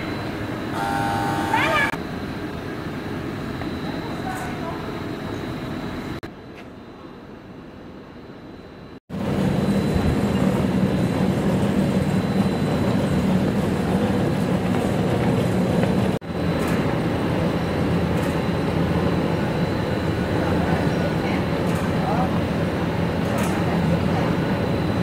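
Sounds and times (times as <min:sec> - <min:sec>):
factory machinery humming and rumbling: 0:00.0 - 0:25.0
outdoor background noise: 0:00.0 - 0:25.0.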